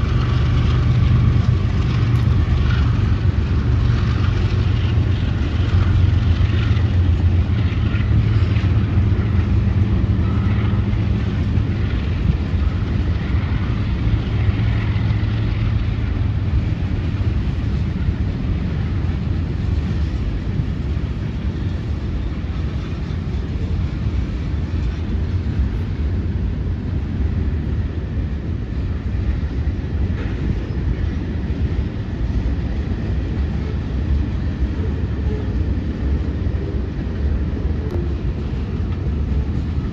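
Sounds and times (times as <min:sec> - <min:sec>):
freight train diesel rumble: 0:00.0 - 0:39.9.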